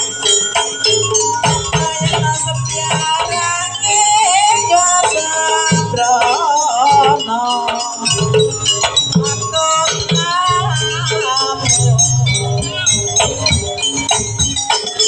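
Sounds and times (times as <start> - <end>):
drums: 0.0 - 15.0
ornamented melody line: 0.0 - 15.0
struck metal percussion: 0.0 - 15.0.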